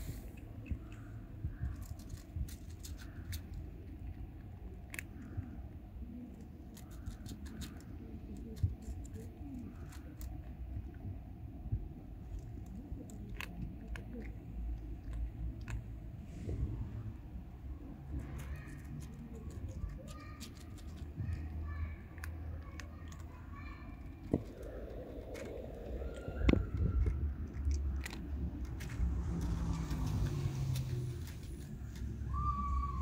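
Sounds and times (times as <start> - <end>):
low background rumble: 0.0 - 33.0
cat chewing wet food: 0.3 - 11.1, 11.7 - 16.2, 18.1 - 31.3.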